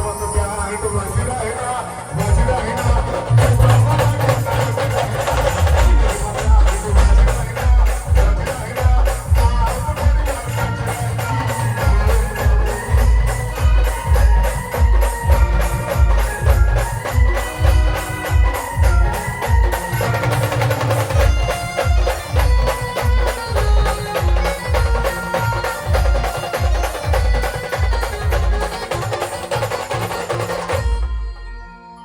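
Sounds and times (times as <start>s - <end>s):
heavy fast drum beats: 0.0s - 31.1s
sustained melody: 0.0s - 32.0s.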